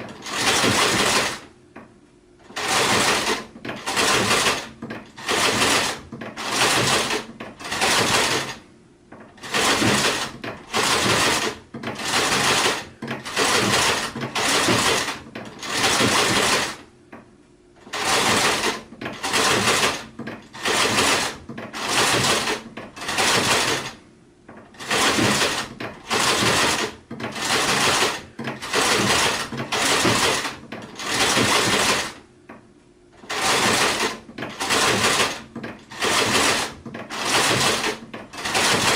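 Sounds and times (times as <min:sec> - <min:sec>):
sewing machine stitching: 0:00.0 - 0:01.5, 0:02.4 - 0:16.9, 0:17.8 - 0:32.2, 0:33.2 - 0:38.9.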